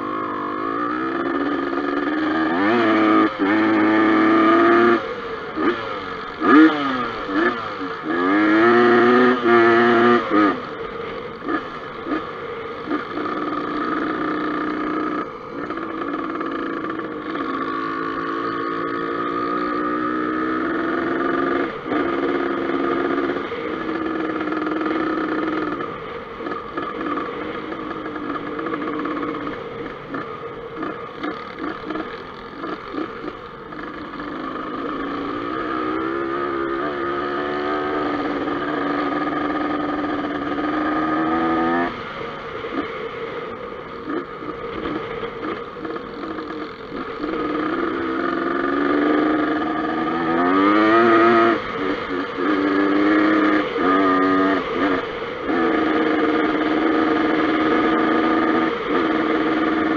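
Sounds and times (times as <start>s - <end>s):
dirt bike engine revving: 0.0s - 43.3s, 43.9s - 59.9s.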